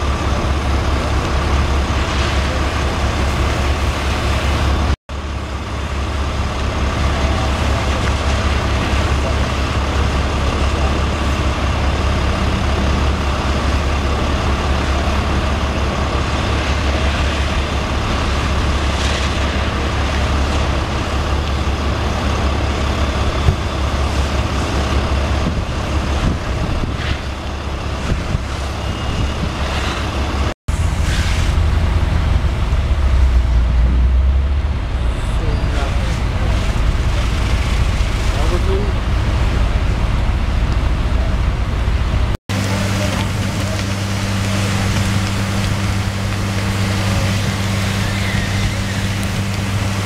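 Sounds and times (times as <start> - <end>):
truck engine low rumble: 0.0 - 50.0.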